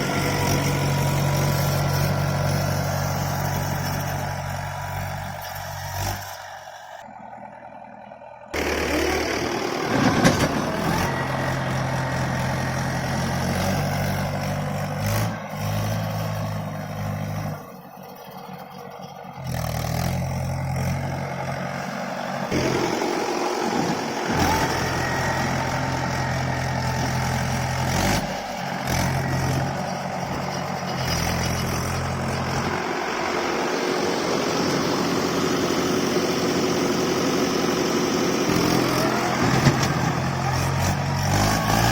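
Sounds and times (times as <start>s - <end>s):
tractor diesel engines running: 0.0s - 41.9s.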